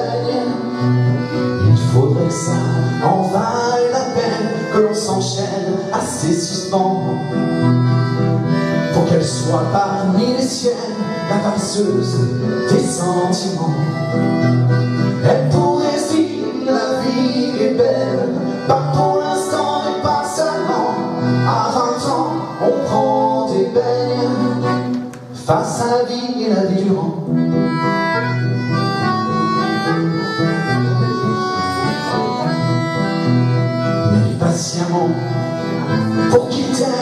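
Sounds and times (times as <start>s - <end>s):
man singing: 0.0s - 7.5s, 8.8s - 14.2s, 15.0s - 27.4s, 30.6s - 33.1s, 33.8s - 37.0s
accordion: 0.0s - 37.0s
acoustic guitar: 0.0s - 37.0s.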